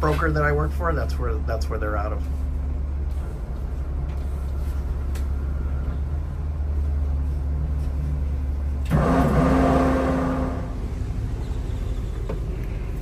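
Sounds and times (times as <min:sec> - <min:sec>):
engines idling hum: 0:00.0 - 0:13.0.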